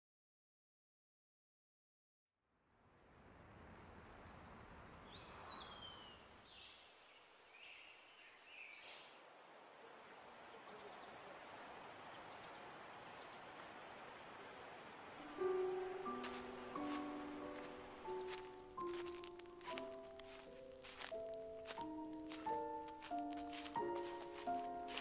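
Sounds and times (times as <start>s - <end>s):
steady background hiss: 2.8s - 25.0s.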